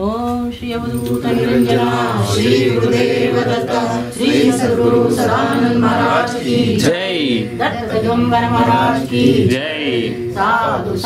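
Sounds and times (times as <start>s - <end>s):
group singing devotional song: 0.0s - 11.0s.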